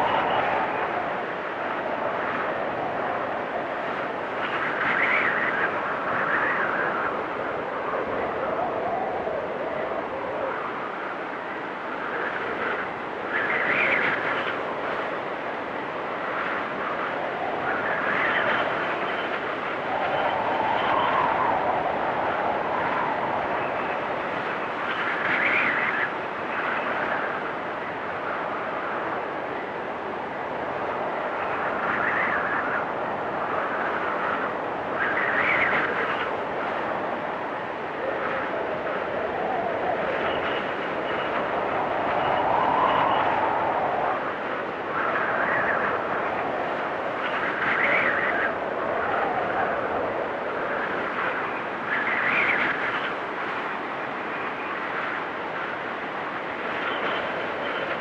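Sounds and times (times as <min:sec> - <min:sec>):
storm wind with whistling gusts: 0:00.0 - 0:58.0.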